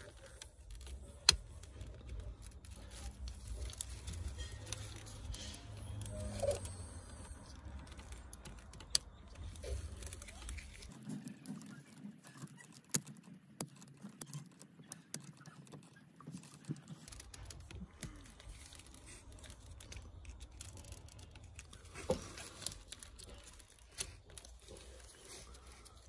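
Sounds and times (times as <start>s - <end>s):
gloves rustling: 0.0s - 26.0s.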